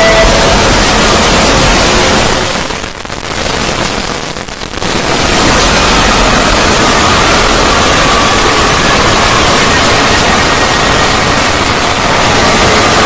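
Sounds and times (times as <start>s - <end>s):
dense rushing noise: 0.0s - 13.0s.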